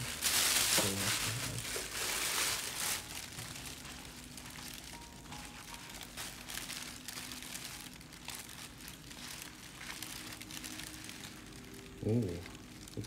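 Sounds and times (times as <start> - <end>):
plastic and paper crinkling: 0.0 - 13.0.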